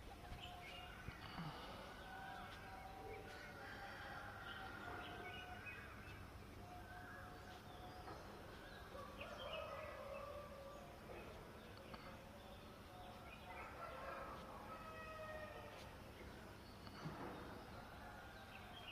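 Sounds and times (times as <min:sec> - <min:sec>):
faint outdoor background: 0:00.0 - 0:18.9.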